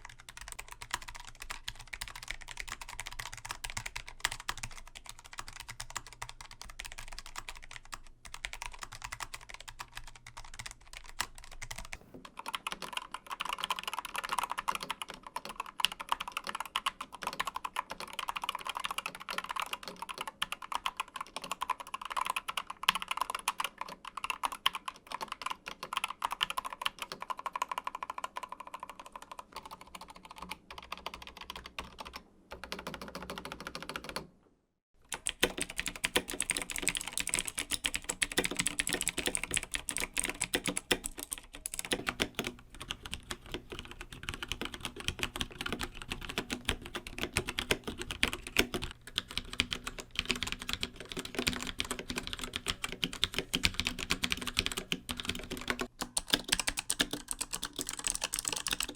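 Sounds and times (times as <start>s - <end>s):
typing on mechanical keyboard: 0.0s - 34.3s, 35.1s - 58.9s.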